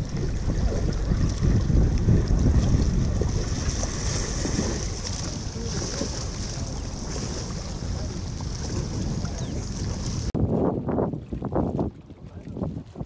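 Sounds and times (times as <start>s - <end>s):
water lapping against rocks: 0.0s - 13.0s
wind buffeting microphone: 0.0s - 13.0s.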